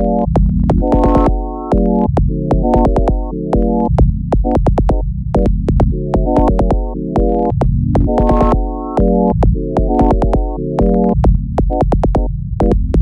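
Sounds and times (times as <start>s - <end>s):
electronic music: 0.0s - 13.0s.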